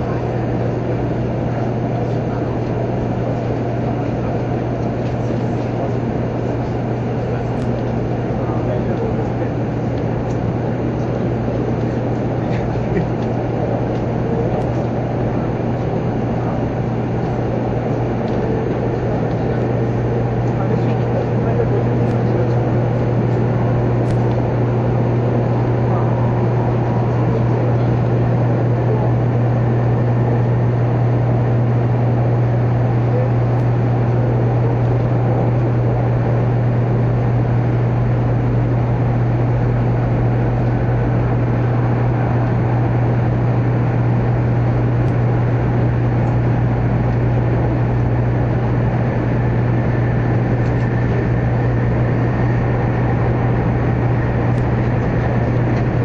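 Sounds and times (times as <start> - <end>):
train interior deep rumble: 0.0 - 56.0.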